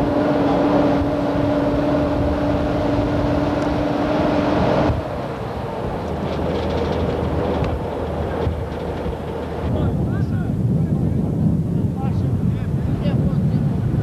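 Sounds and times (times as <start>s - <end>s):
engine drone: 0.0s - 14.0s
vehicle rumbling over rough ground: 0.0s - 14.0s.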